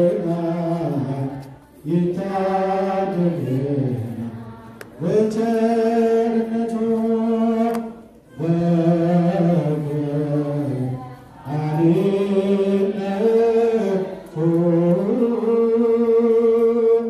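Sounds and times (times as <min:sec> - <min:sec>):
liturgical chant: 0:00.0 - 0:17.0.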